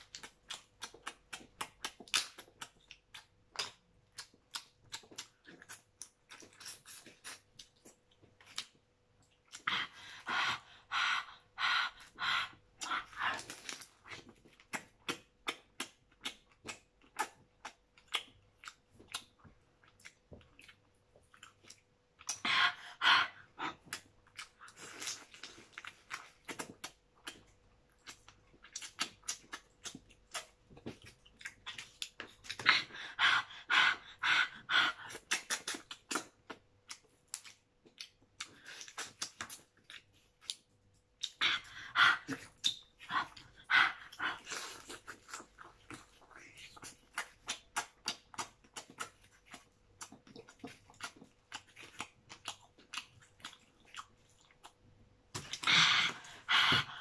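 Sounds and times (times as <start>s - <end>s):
open-mouthed chewing and smacking: 0.0s - 57.0s.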